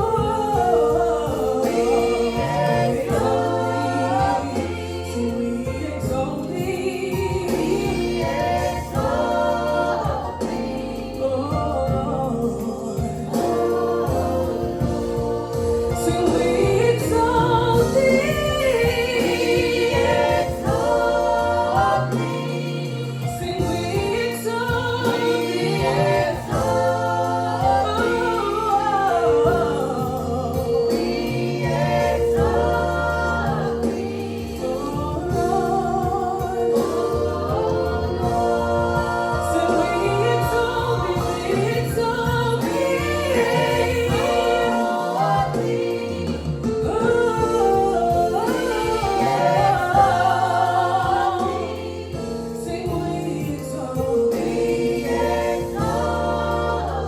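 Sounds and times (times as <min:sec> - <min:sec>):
choir singing: 0:00.0 - 0:57.0
sustained low bass notes: 0:00.0 - 0:57.0.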